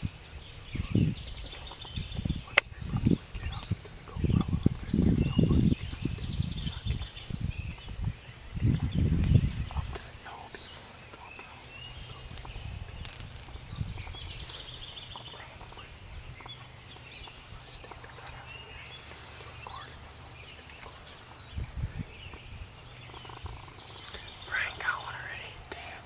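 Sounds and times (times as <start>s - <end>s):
songbirds trilling: 0.0s - 26.0s
steady low rumble: 0.0s - 26.0s.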